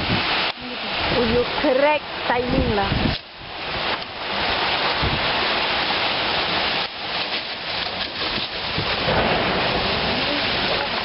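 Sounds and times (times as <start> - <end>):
gusting wind: 0.0 - 11.0
heavy rain pouring: 0.0 - 11.0.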